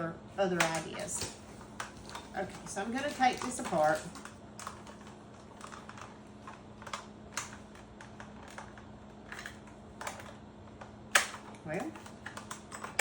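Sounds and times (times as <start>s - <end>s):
faint steady hum: 0.0s - 13.0s
plastic clicks and rattles: 0.6s - 13.0s.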